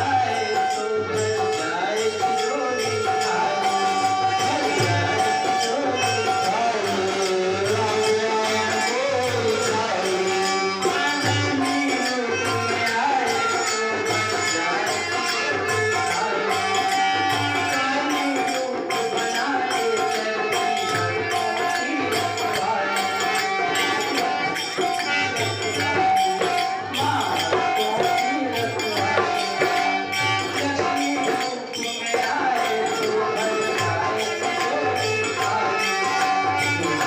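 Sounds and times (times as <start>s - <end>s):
jingling tambourine: 0.0s - 37.0s
steady drum beat: 0.0s - 37.0s.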